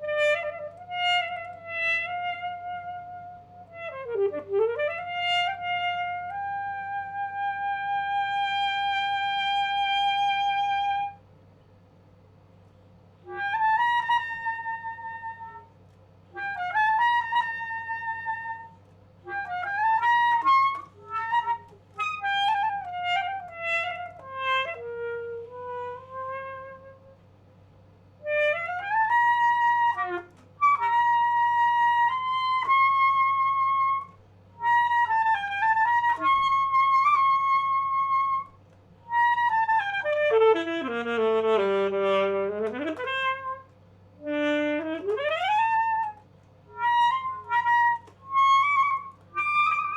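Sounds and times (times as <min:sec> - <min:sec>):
alto saxophone melody: 0:00.0 - 0:11.4, 0:12.6 - 0:49.9.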